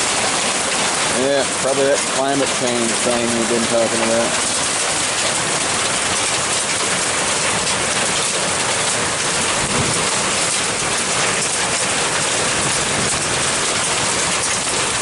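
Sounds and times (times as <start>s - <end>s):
hail and heavy rain: 0.0s - 15.0s.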